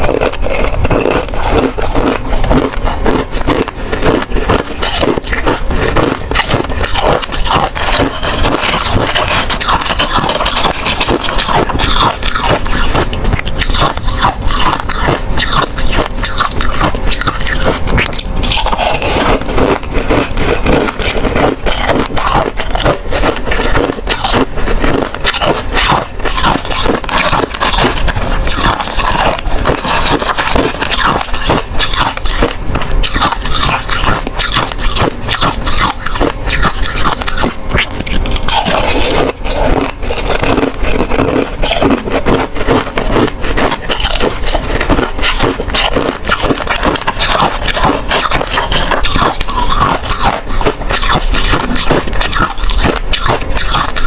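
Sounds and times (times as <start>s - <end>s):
ice cubes crunched and chewed: 0.0s - 54.0s.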